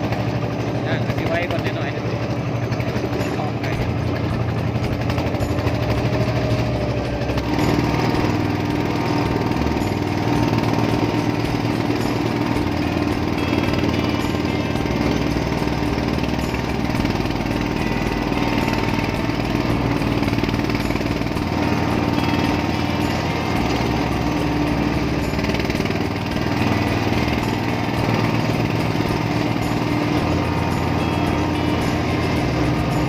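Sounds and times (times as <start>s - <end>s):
diesel engine chugging: 0.0s - 33.0s.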